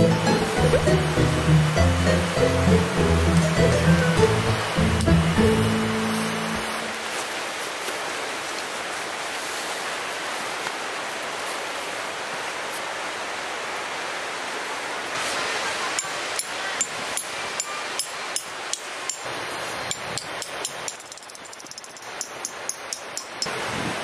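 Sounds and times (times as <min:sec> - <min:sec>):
sea surf rushing: 0:00.0 - 0:11.2, 0:14.1 - 0:21.0, 0:22.1 - 0:24.0.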